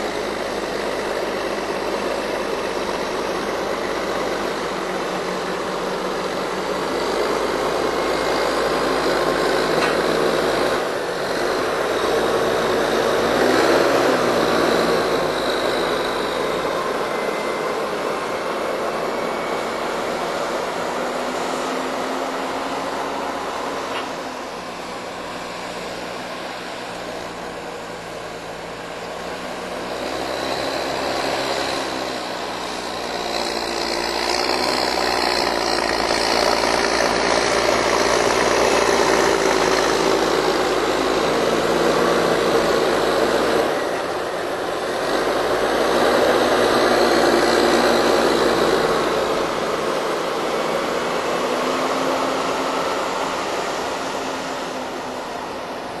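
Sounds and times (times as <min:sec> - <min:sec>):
tractor diesel engine working: 0:00.0 - 0:56.0.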